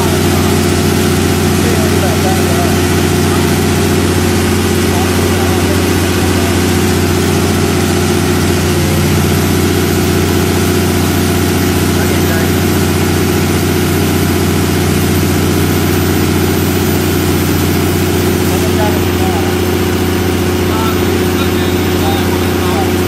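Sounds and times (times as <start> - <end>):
diesel generator running: 0.0 - 23.0.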